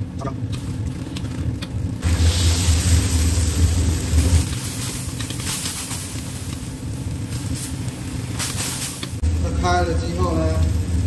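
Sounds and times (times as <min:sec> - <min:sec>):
steady low rumble: 0:00.0 - 0:11.0
food sizzling in hot oil: 0:02.0 - 0:11.0.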